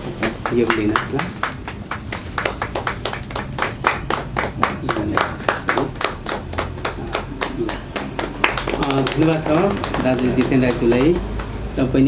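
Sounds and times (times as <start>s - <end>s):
small group clapping: 0.2s - 11.8s.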